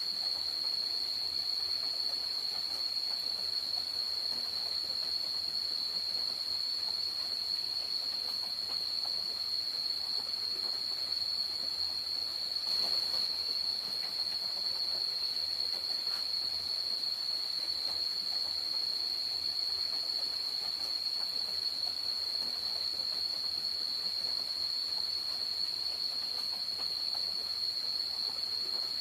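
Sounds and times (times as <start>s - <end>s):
faint hiss: 0.0s - 29.0s
small ticks and rustles: 0.0s - 29.0s.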